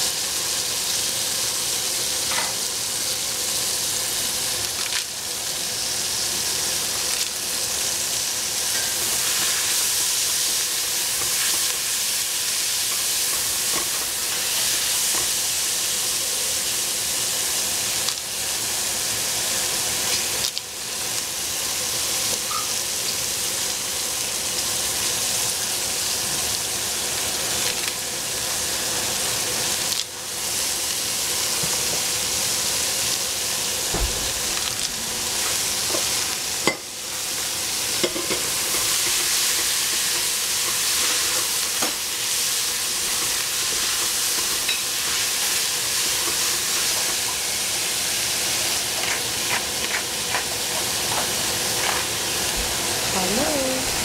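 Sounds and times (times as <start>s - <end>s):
vegetables sizzling in pan: 0.0s - 54.0s.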